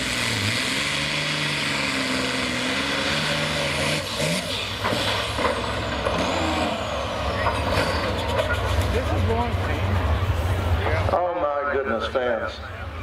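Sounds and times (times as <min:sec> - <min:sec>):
diesel tractor engine running hard: 0:00.0 - 0:13.0.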